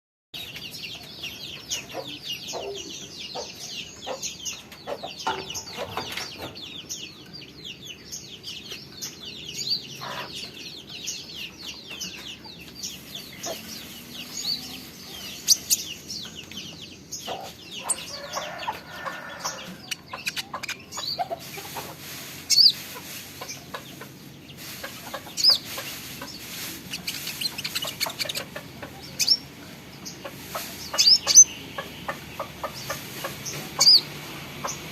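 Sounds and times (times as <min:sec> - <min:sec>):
songbird singing rapid chirps: 0:00.4 - 0:34.9.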